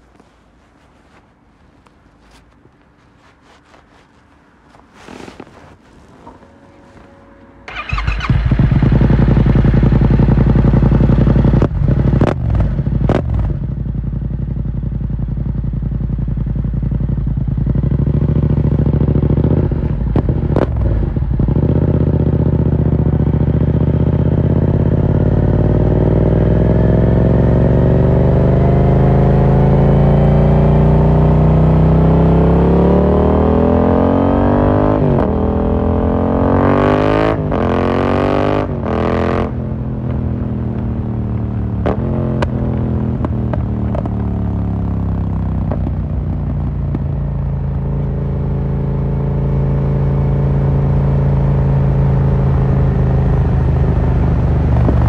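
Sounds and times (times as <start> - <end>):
motorcycle engine revving: 3.2 - 55.0.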